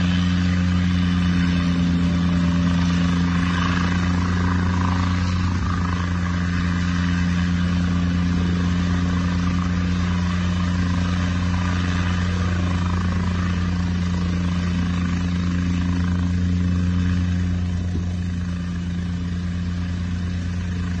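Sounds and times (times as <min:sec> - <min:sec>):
helicopter engine and turbine: 0:00.0 - 0:21.0
helicopter rotor thrum: 0:00.0 - 0:21.0.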